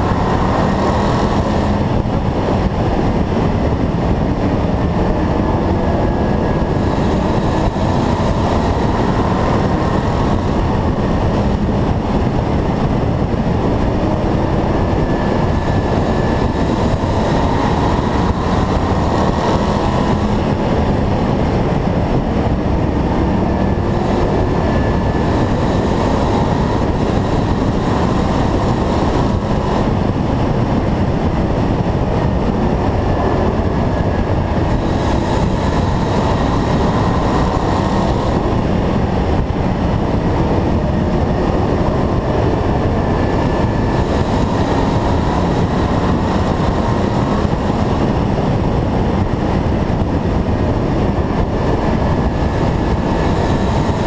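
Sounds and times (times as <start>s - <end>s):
other race car engines: 0.0s - 54.0s
race car engine running hard: 0.0s - 54.0s
wind rushing: 0.0s - 54.0s.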